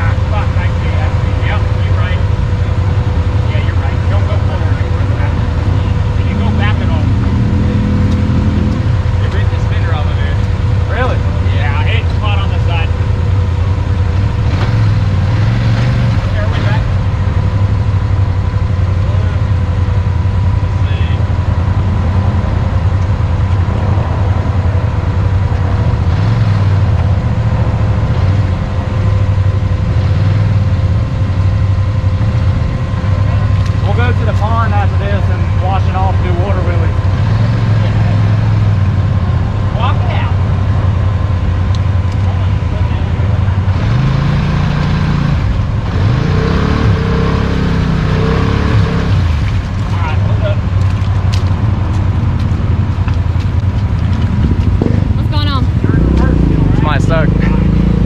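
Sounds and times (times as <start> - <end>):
atv engine low drone: 0.0 - 58.0.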